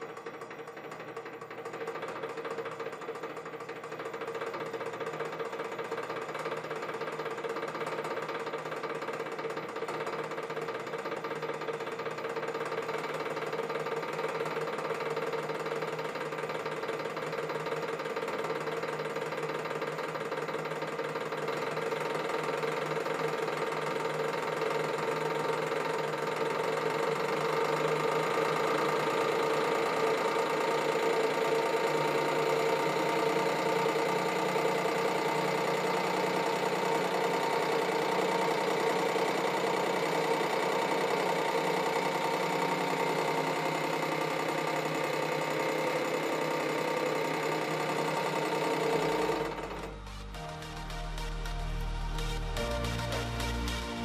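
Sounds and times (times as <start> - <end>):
hydraulic pump humming: 0.0 - 54.0.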